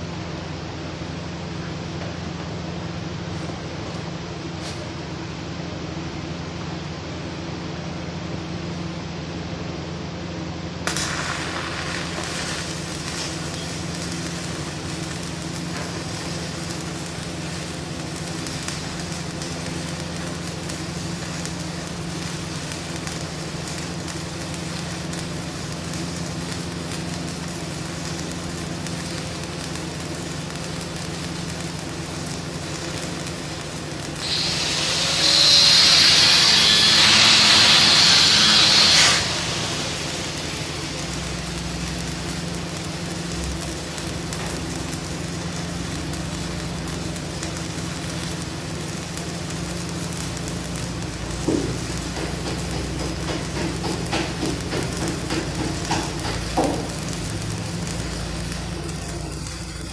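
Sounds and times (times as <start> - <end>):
machine hum: 0.0 - 59.9
welding arc crackling: 10.8 - 59.9.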